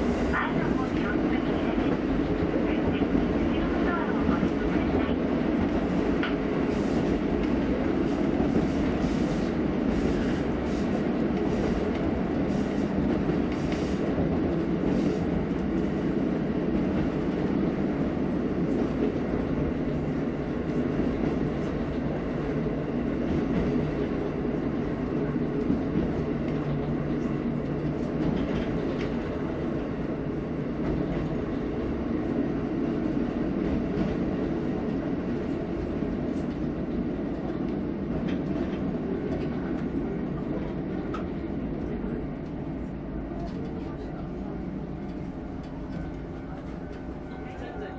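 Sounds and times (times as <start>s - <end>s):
train running on rails: 0.0s - 47.9s.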